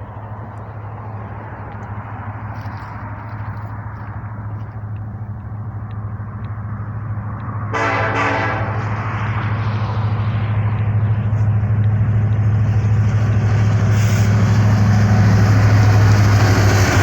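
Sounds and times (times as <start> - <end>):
diesel locomotives passing: 0.0 - 17.0.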